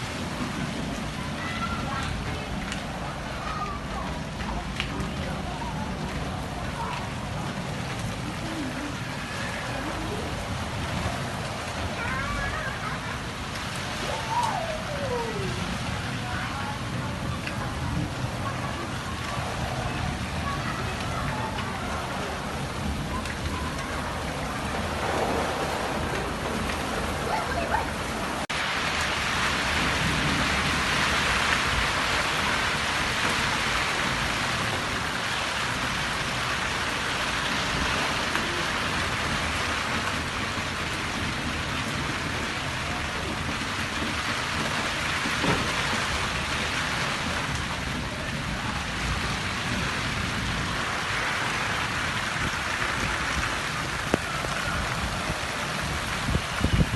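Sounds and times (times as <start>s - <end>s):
heavy rain hissing: 0.0s - 56.9s.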